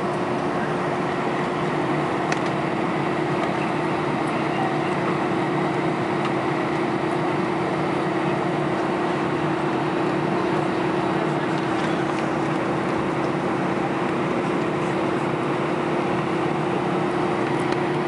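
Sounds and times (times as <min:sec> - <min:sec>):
airliner engines idling hum: 0:00.0 - 0:18.0.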